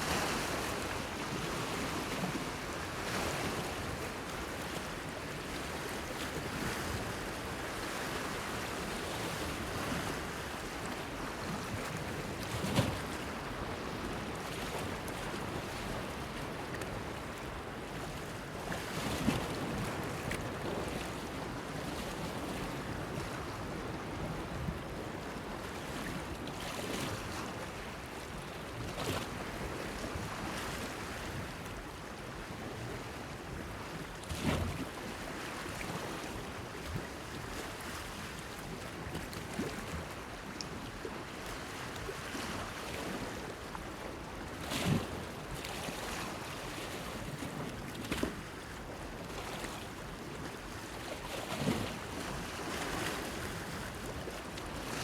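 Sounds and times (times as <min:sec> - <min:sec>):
small waves lapping against a pier: 0:00.0 - 0:55.0
wind: 0:00.0 - 0:55.0.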